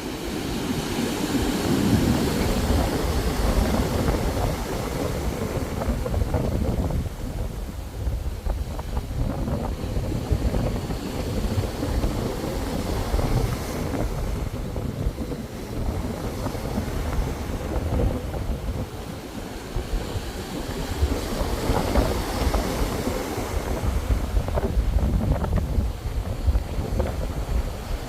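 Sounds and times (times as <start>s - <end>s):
ocean waves washing: 0.0s - 28.0s
wind rumbling on microphone: 0.0s - 28.0s.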